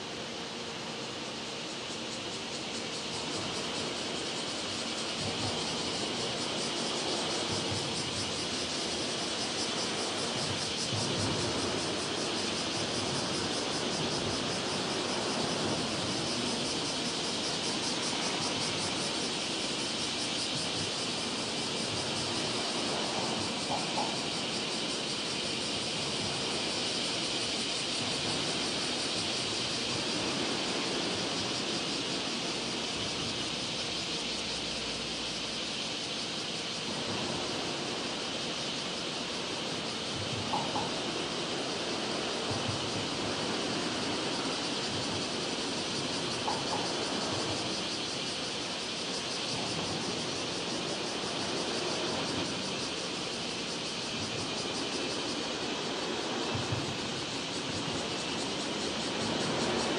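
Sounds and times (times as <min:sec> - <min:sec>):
distant freight train rumble: 0:00.0 - 0:59.9
high-pitched hiss: 0:00.0 - 0:59.9.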